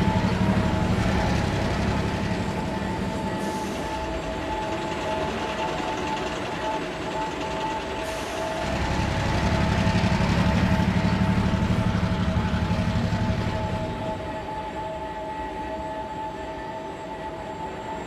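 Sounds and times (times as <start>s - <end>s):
low fast-pulsing engine throb: 0.0s - 15.0s
faint steady tones: 0.0s - 18.0s.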